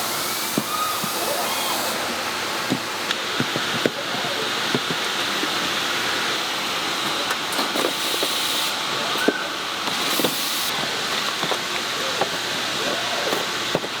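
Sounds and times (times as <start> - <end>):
hiss of factory machinery: 0.0 - 14.0.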